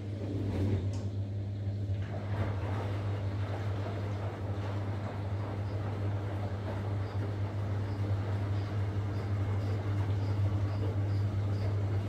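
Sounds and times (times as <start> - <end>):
low motor hum: 0.0 - 12.0
washing machine drum turning: 0.0 - 12.0.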